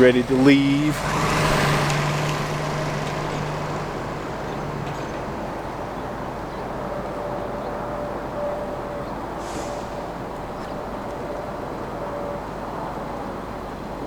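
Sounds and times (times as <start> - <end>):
truck engine hum: 0.0 - 13.6
broad noise: 0.0 - 14.0.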